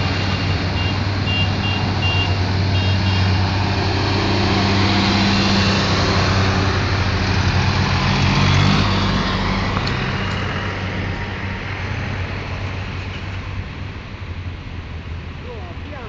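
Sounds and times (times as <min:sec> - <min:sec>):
tractor diesel engines passing: 0:00.0 - 0:16.0.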